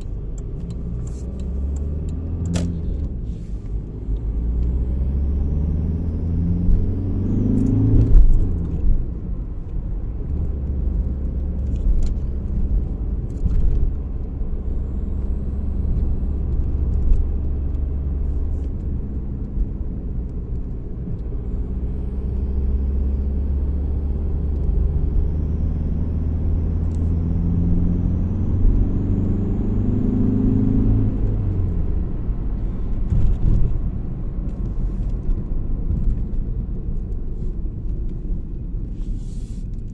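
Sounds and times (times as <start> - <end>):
diesel engine accelerating: 0.0 - 39.1.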